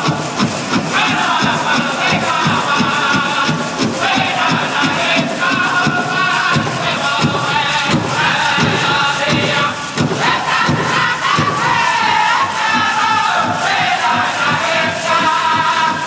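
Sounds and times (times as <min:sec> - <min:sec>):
men singing high-pitched in unison: 0:00.0 - 0:16.0
steady drumbeat: 0:00.0 - 0:16.0.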